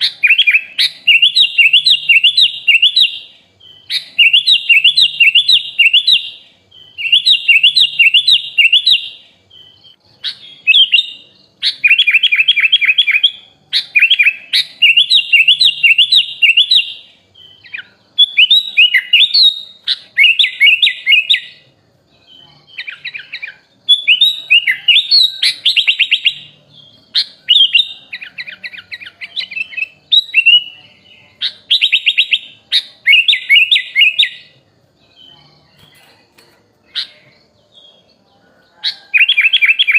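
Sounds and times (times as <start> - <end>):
bulbul singing trilled phrases: 0.0 - 39.9.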